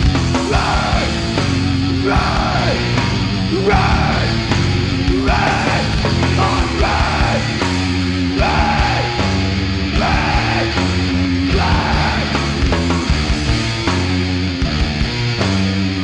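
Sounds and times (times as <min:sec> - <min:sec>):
heavy metal band playing: 0:00.0 - 0:16.0.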